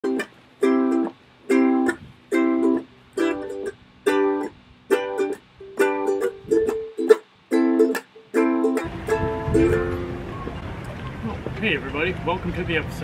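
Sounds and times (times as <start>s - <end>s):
ukulele strumming chords: 0.0s - 11.5s.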